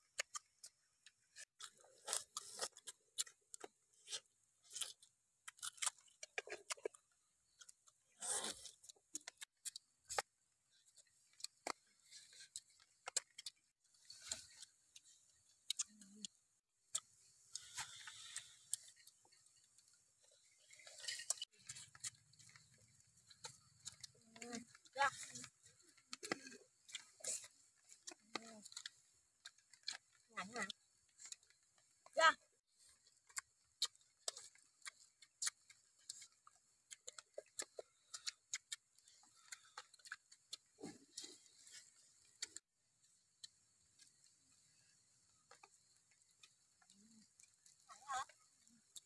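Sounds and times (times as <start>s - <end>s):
people chewing: 0.0s - 49.0s
faint clicks and mouth smacks: 8.5s - 32.2s, 33.1s - 49.0s.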